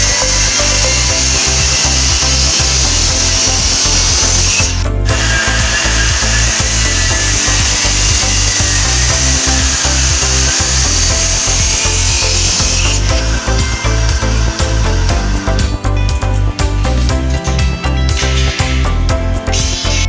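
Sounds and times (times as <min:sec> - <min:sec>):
power tool running on steel: 0:00.0 - 0:15.9, 0:19.5 - 0:20.0
background music: 0:00.0 - 0:20.0.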